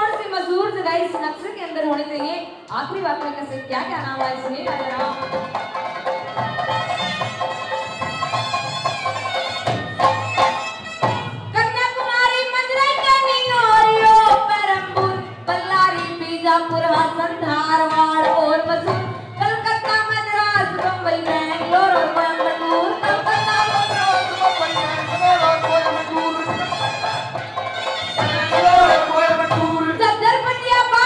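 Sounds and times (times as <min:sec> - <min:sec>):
folk band with drums: 0:00.0 - 0:31.0.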